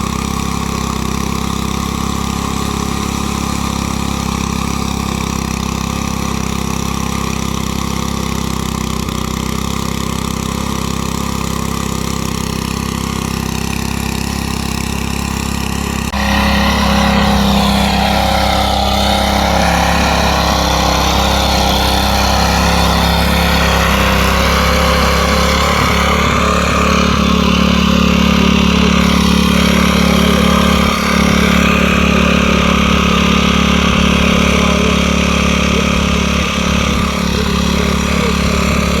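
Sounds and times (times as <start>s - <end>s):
tiller engine running: 0.0s - 39.0s.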